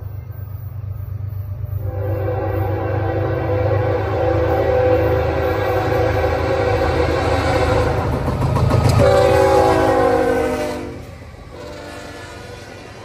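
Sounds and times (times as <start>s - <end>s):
locomotive horn blast: 1.8s - 8.2s, 8.8s - 12.8s.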